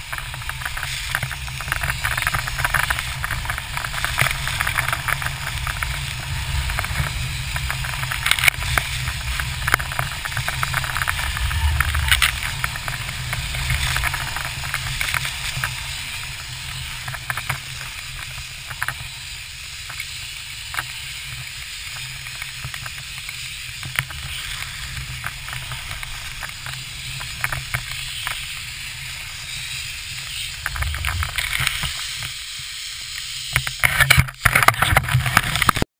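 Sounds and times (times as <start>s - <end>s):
wind rumbling on microphone: 0.0s - 32.4s
skis scraping over snow: 0.0s - 32.5s.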